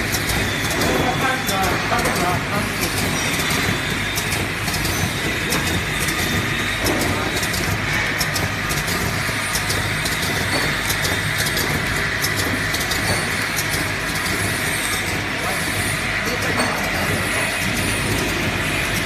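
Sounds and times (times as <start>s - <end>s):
conveyor machinery clattering: 0.0s - 19.0s.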